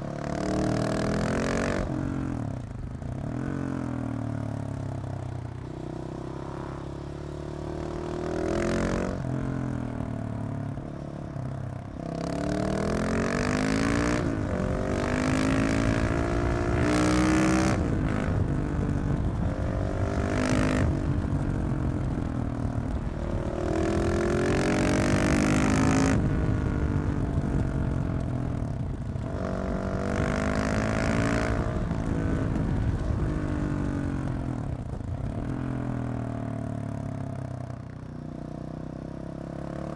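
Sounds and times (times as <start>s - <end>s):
motorcycle engine revving: 0.0s - 37.7s.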